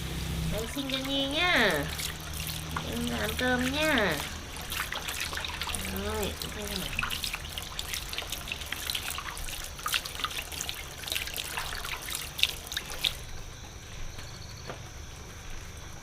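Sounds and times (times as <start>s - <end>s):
water trickling and splashing: 0.0s - 14.3s.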